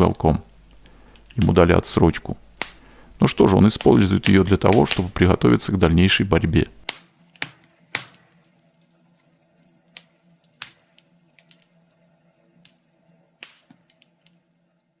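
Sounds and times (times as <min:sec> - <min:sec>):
wood fire crackling: 0:00.0 - 0:14.7
faint steady hum: 0:00.0 - 0:15.0.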